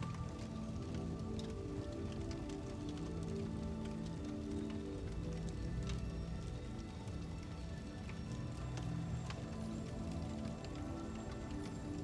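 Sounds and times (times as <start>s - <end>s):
soft slow background music: 0.0s - 12.0s
wood fire crackling and popping: 0.0s - 12.0s.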